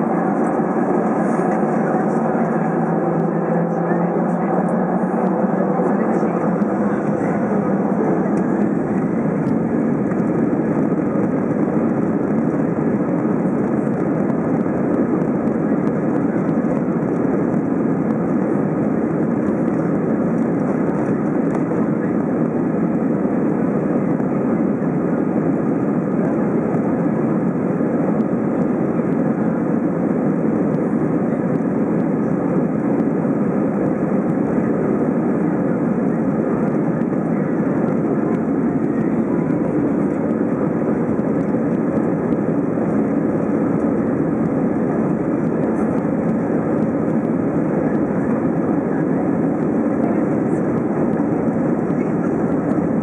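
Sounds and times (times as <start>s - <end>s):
jet engines at takeoff thrust: 0.0s - 53.0s.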